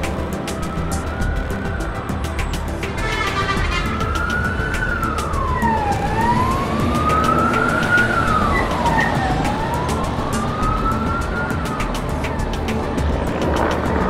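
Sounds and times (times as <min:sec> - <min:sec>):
emergency siren wailing: 0:00.0 - 0:14.0
steady rumble: 0:00.0 - 0:14.0.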